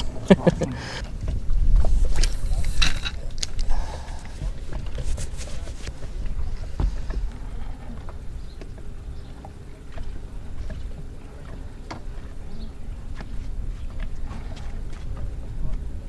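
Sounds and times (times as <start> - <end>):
water slapping boat hull: 0.0 - 16.0.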